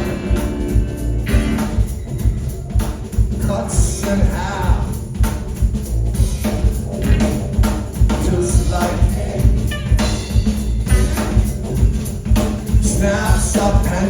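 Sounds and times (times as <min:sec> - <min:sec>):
heavy bass line: 0:00.0 - 0:14.0
steady drum beat: 0:00.0 - 0:14.0.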